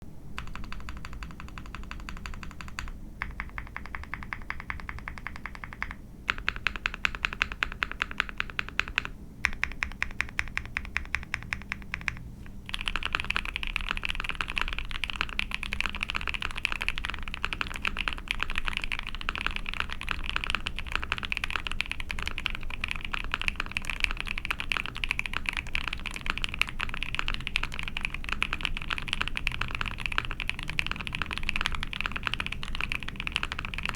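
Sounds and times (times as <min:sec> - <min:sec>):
typing on mechanical keyboard: 0:00.4 - 0:33.9.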